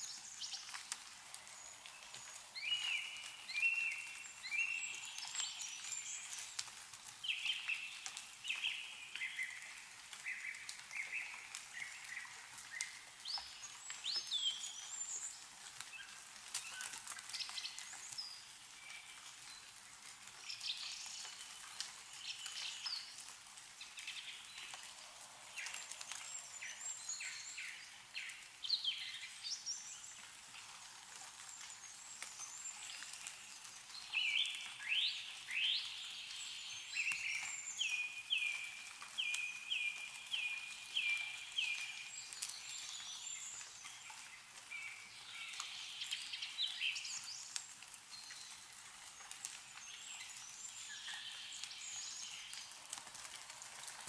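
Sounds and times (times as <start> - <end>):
songbirds chirping and trilling: 0.0 - 53.0
meltwater dripping: 0.0 - 54.0.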